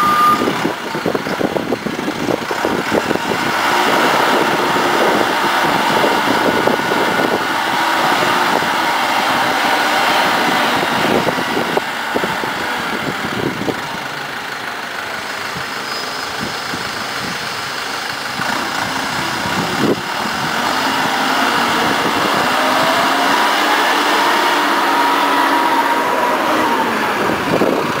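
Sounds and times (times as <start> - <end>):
forklift engine running: 0.0 - 28.0.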